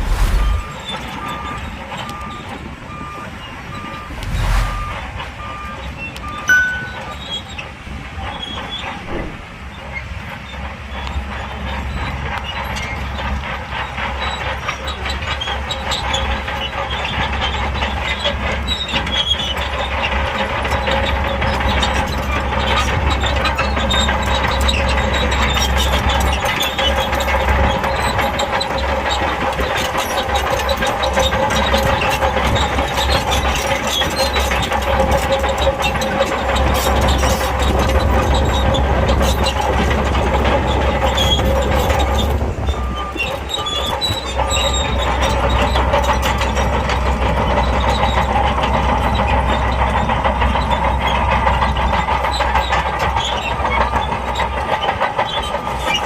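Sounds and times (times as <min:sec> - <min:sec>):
bulldozer diesel engine: 0:00.0 - 0:56.0
steel tracks clanking: 0:00.4 - 0:56.0.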